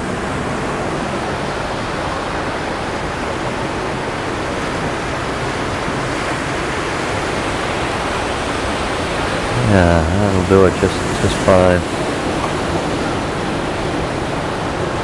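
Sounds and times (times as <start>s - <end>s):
surf washing against rocks: 0.0s - 15.0s.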